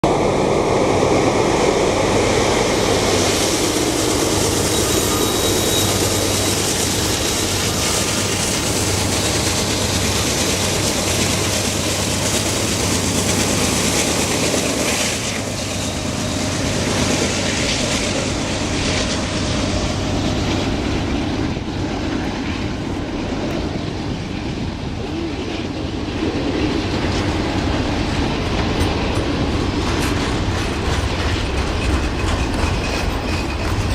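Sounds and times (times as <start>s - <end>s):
diesel locomotive engine drone: 0.0s - 33.9s
train wheels rushing and clattering: 0.0s - 33.9s.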